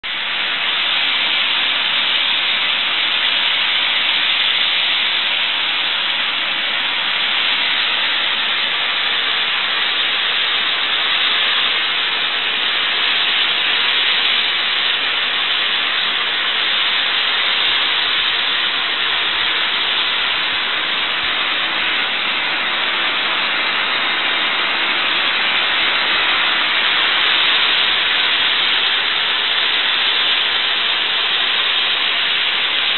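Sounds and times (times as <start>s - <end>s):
snow gun blasting loud hiss: 0.0s - 32.9s.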